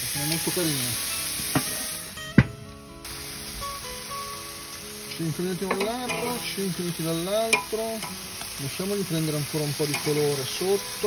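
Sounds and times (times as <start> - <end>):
grill sizzling: 0.0 - 11.0
music with long held notes: 0.1 - 9.0.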